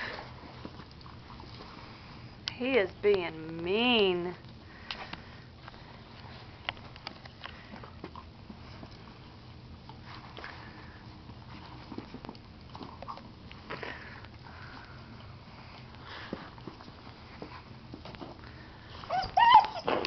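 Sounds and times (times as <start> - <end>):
puppies play-biting: 0.0 - 2.5, 4.4 - 20.0
puppies scuffling: 0.0 - 20.0.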